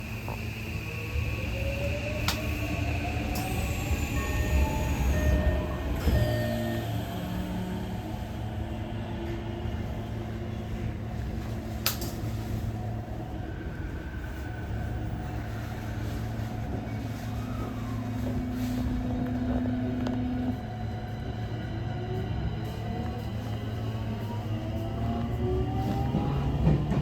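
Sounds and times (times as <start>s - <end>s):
electric train rumbling: 0.0s - 27.0s.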